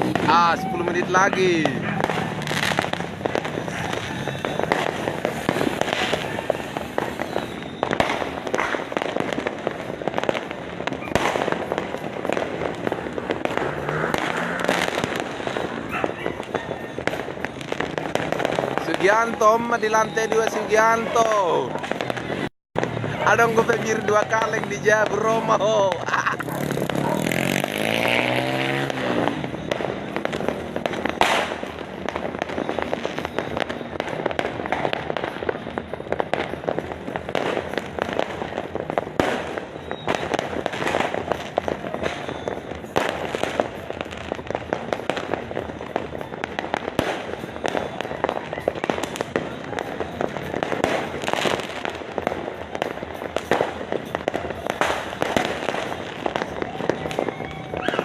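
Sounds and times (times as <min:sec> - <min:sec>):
fireworks and firecrackers banging: 0:00.0 - 0:58.0.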